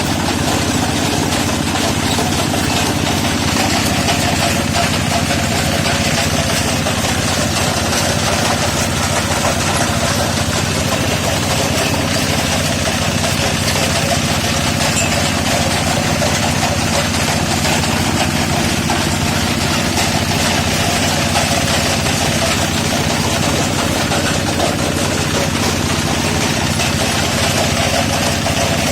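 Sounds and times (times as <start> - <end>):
machine motor humming: 0.0 - 28.9.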